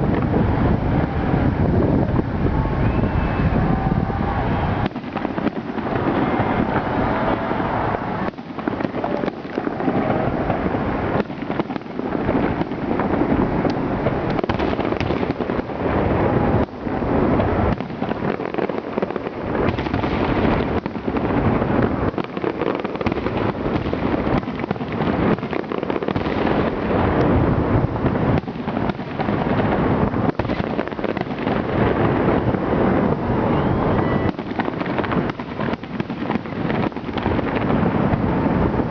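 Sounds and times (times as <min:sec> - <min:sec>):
fireworks booming and crackling: 0:00.0 - 0:38.9.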